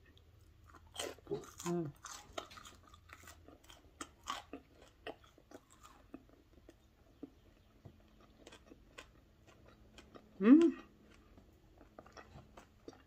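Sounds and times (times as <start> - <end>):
close chewing with crunches: 0.0 - 13.0.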